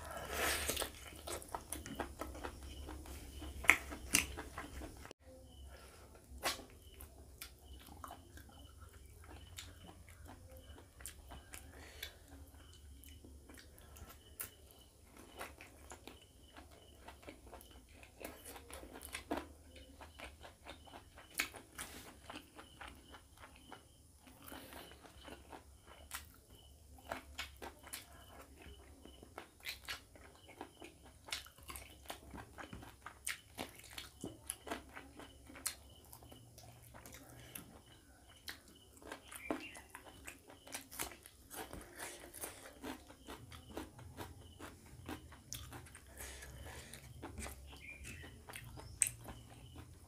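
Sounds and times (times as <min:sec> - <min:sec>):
chewing and lip smacks: 0:00.4 - 0:05.1, 0:06.4 - 0:26.4, 0:27.0 - 0:50.0.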